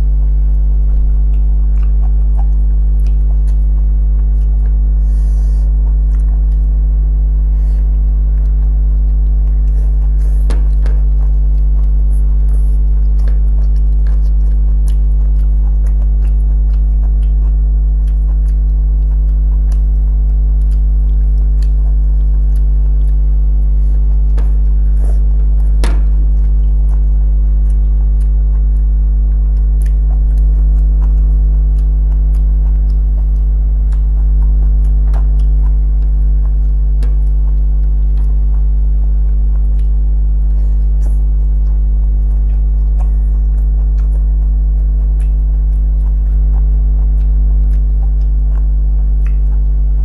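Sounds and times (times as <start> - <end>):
chewing: 0.0 - 50.0
low hum: 0.0 - 50.0
mouth and finger clicks: 0.0 - 50.0.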